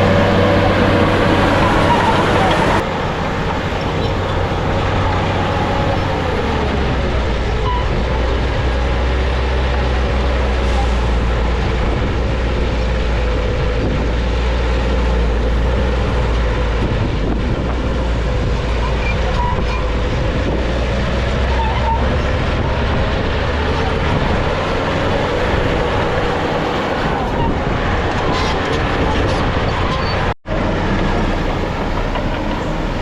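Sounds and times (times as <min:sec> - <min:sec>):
bulldozer diesel engine under load: 0:00.0 - 0:33.0.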